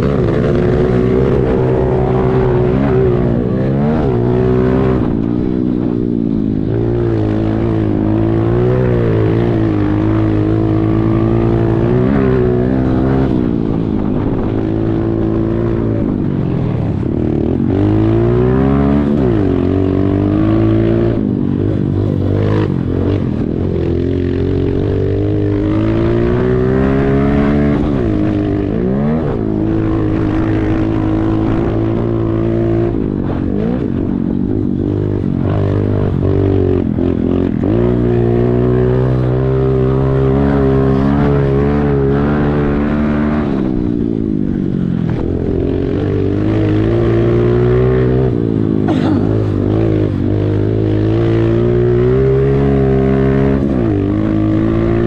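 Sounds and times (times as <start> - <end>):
pit bike engine revving: 0.0 - 16.2, 17.3 - 55.0.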